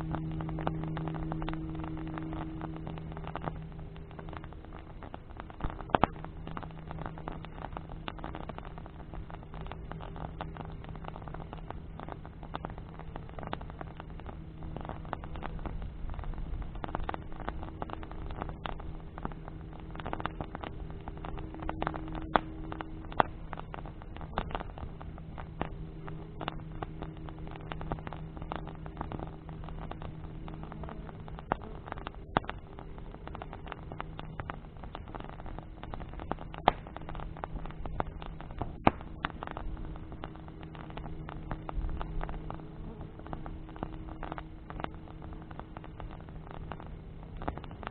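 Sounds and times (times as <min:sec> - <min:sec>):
bonfire crackling and popping: 0:00.0 - 0:47.9
low hum: 0:00.0 - 0:47.9.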